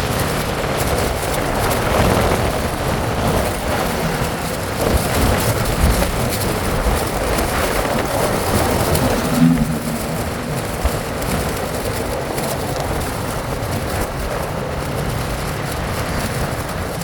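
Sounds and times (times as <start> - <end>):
road noise from moving bike: 0.0 - 17.0
wind buffeting microphone: 0.0 - 17.0.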